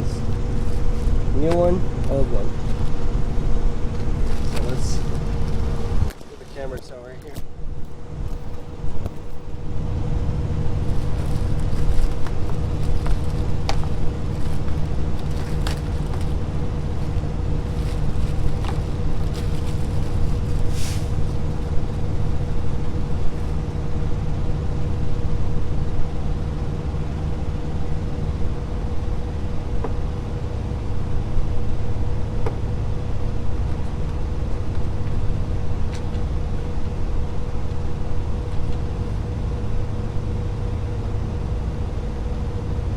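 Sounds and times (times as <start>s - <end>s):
diesel truck engine idling: 0.0s - 42.8s.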